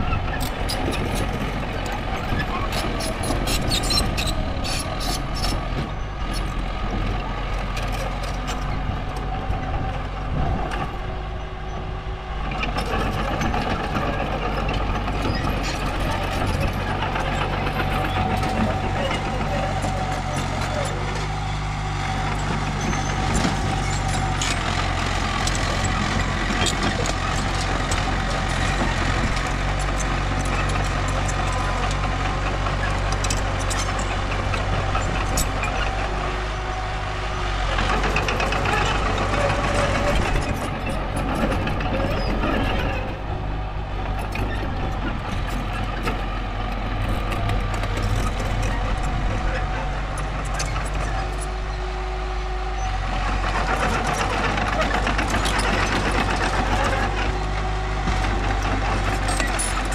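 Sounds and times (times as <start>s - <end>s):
bulldozer engine running: 0.0s - 59.9s.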